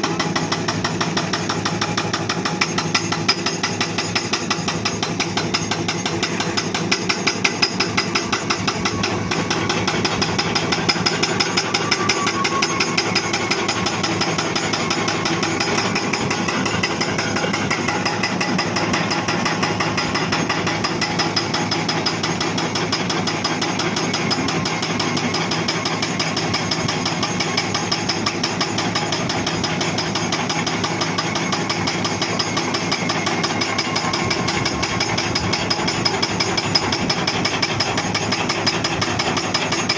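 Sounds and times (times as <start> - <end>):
excavator engine running: 0.0 - 39.9
hydraulic breaker pounding rock: 0.0 - 39.9.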